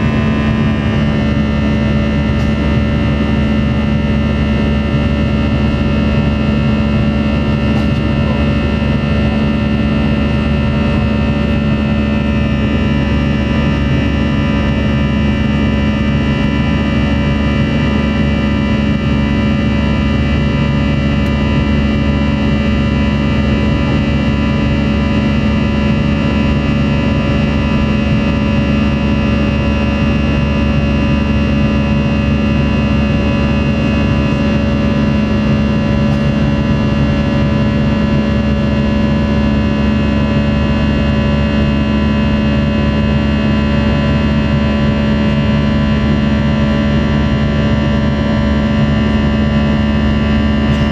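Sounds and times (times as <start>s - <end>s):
airplane cabin drone: 0.0s - 50.9s
low hum: 0.0s - 50.9s.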